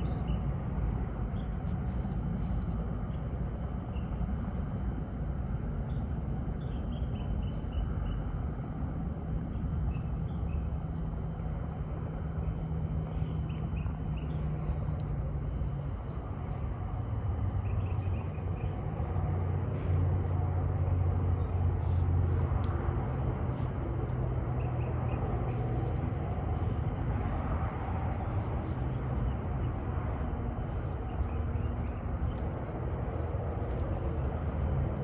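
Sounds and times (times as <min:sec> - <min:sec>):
low motor hum: 0:00.0 - 0:35.0.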